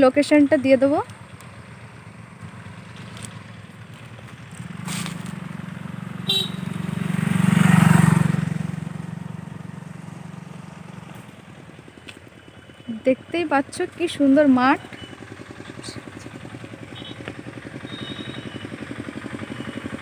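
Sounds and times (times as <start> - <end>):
vehicle engine hum passing: 0.0 - 20.0.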